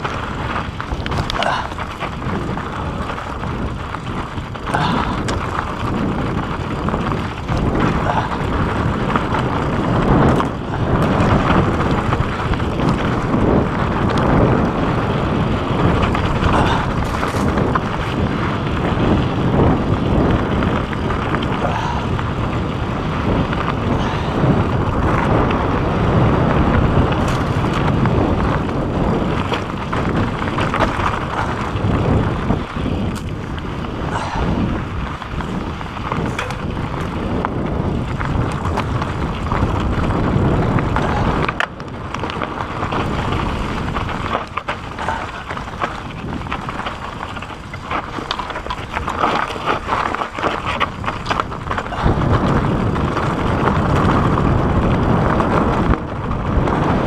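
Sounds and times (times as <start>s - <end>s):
bike rattling over rocks: 0.0s - 57.0s
tyres rolling on dirt and rock: 0.0s - 57.0s
wind rushing over microphone: 0.0s - 57.0s.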